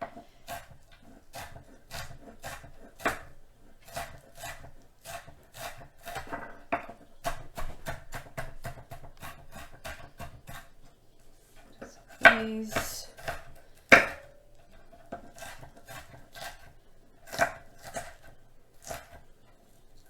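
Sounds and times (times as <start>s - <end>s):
knife chopping on cutting board: 0.0s - 10.8s, 11.6s - 19.3s.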